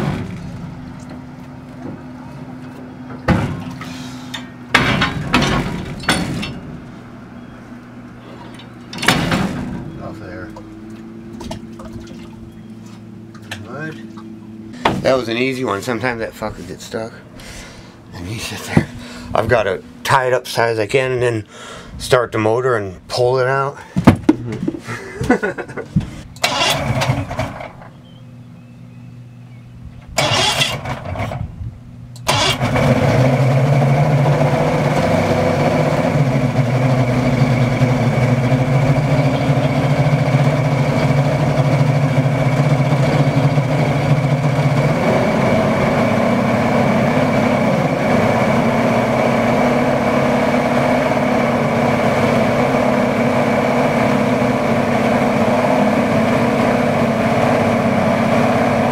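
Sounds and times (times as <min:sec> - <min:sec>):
boat motor starting and running: 0:00.0 - 0:22.0, 0:23.1 - 0:58.9.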